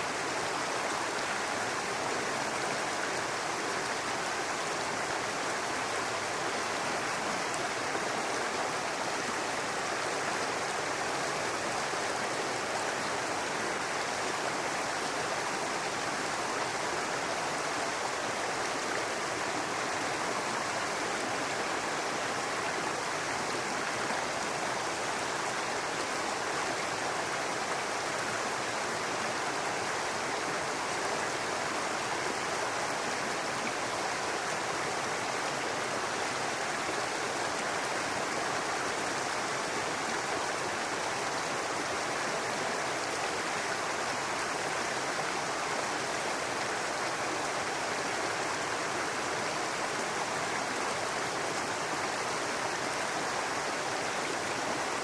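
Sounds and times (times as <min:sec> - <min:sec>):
brook water running over stones: 0:00.0 - 0:55.0.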